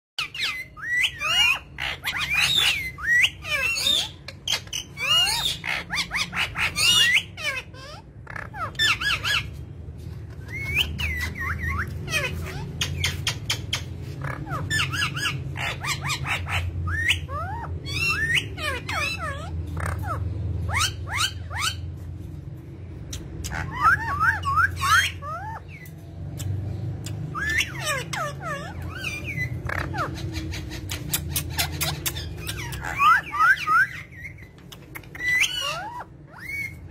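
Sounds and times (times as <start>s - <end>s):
parrot squawking and chirping: 0.2s - 36.9s.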